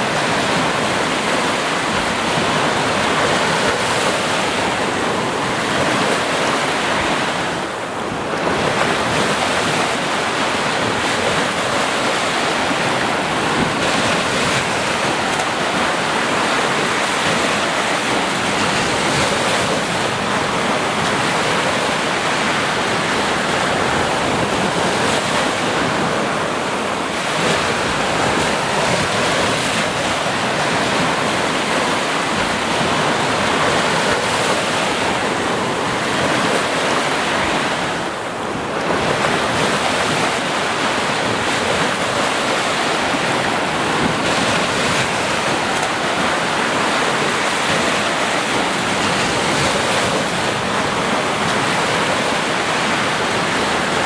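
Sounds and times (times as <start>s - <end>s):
ocean waves on beach: 0.0s - 54.0s.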